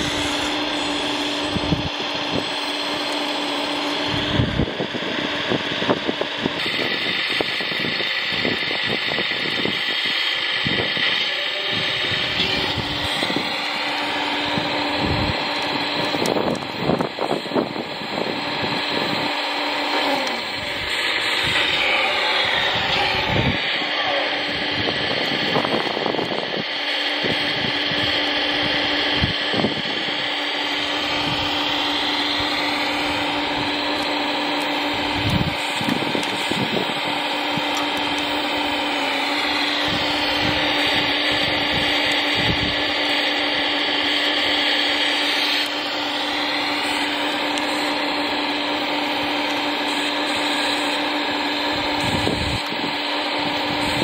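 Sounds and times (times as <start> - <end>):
electric motor and pump whining: 0.0 - 54.0.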